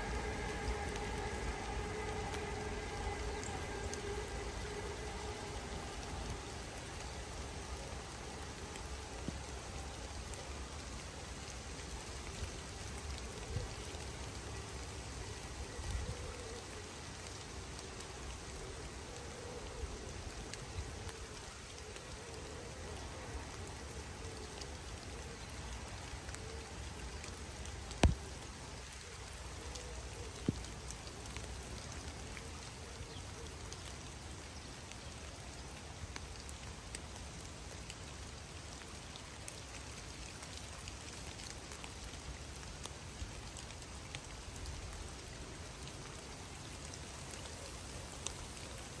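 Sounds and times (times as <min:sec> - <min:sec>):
rain falling on a river: 0:00.0 - 0:49.0.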